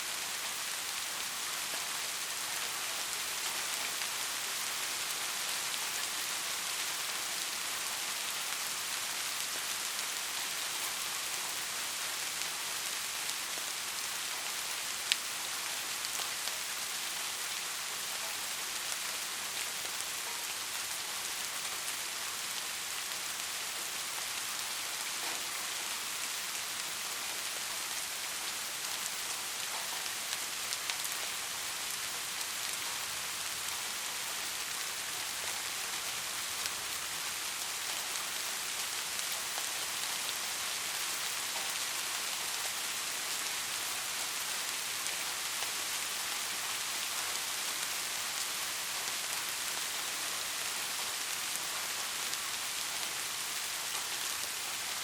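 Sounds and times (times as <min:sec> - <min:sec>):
steady rain on a surface: 0:00.0 - 0:55.0.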